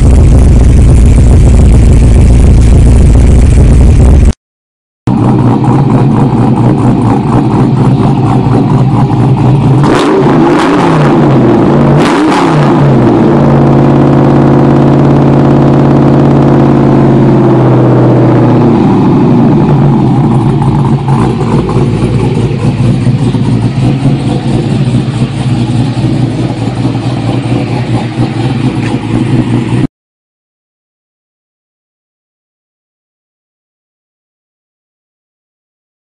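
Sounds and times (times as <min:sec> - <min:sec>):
truck engine exhaust drone: 0:00.0 - 0:04.4, 0:05.1 - 0:29.9.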